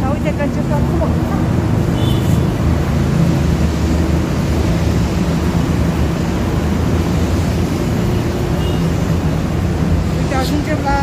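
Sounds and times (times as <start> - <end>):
city traffic roar: 0.0 - 11.0.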